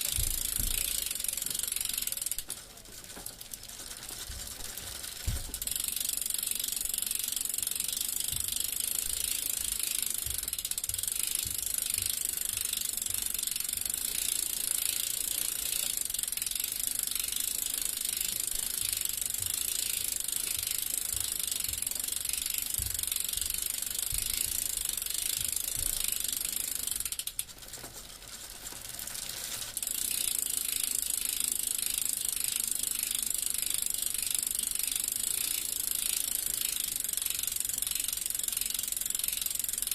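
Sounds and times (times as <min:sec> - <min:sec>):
bicycle freewheel ticking: 0:00.0 - 0:39.9.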